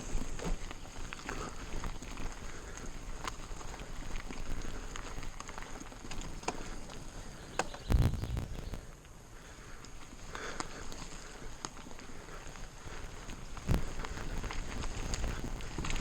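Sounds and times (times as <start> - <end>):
bike tyres on trail: 0.0 - 16.0.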